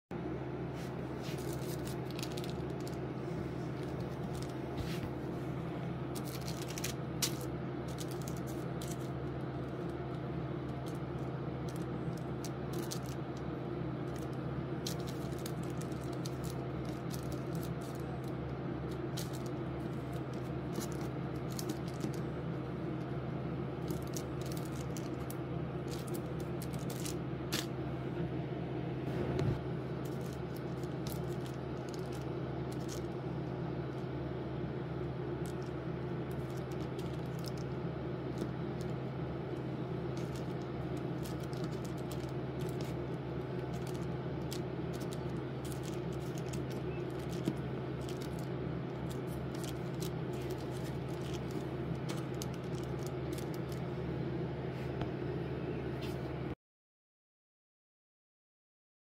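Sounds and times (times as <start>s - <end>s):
low hum: 0.1s - 56.6s
baking paper crinkling: 0.7s - 27.8s, 29.1s - 34.1s, 35.0s - 53.9s.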